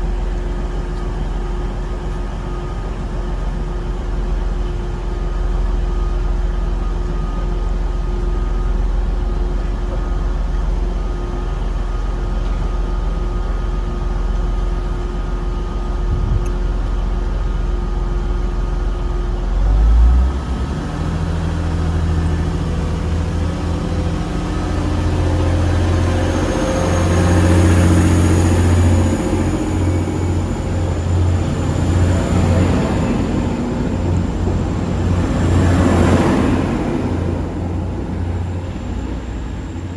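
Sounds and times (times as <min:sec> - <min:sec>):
diesel train engine: 0:00.0 - 0:39.9.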